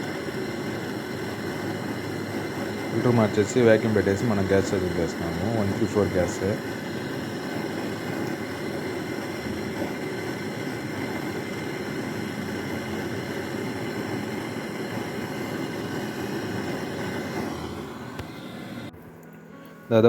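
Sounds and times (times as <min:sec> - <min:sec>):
freezer refrigeration running: 0:00.0 - 0:19.0
gas hissing: 0:00.0 - 0:19.0.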